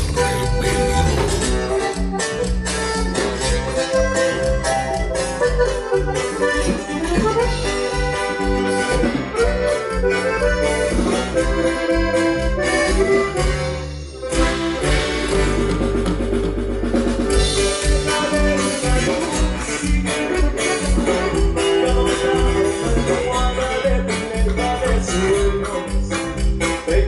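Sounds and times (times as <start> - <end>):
accordion: 0.0 - 27.0
drums with steady beat: 0.0 - 27.0
strummed guitar: 0.0 - 27.0.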